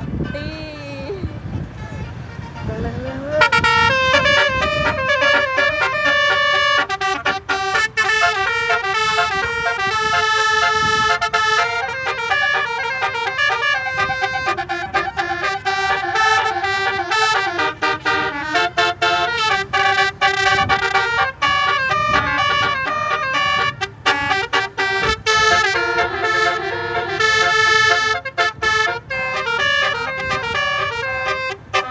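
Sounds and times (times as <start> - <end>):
vehicle musical horn melody: 0.0 - 31.9.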